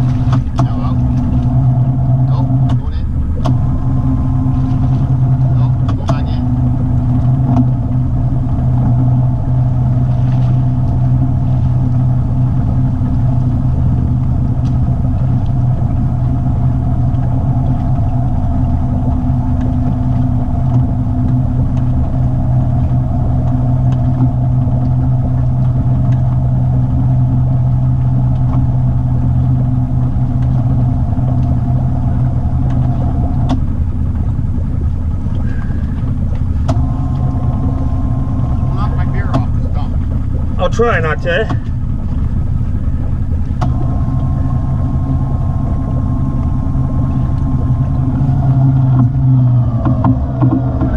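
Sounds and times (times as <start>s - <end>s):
atv engine humming: 0.0s - 50.9s.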